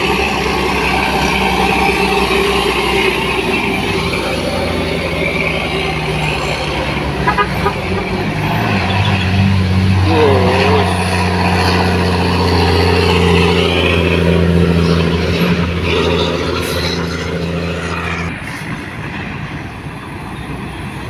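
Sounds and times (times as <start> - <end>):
truck diesel engine labouring: 0.0 - 21.0.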